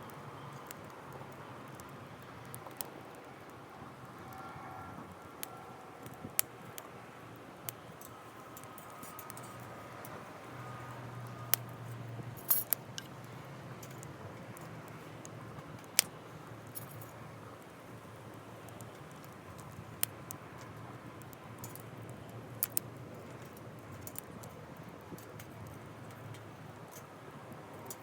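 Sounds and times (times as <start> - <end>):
campfire crackling: 0.1 - 28.0.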